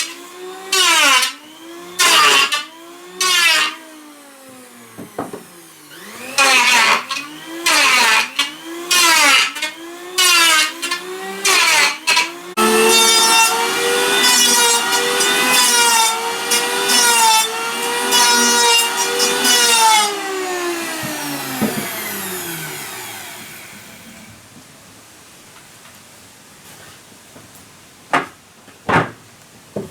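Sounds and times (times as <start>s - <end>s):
power saw cutting wood: 0.0s - 24.4s.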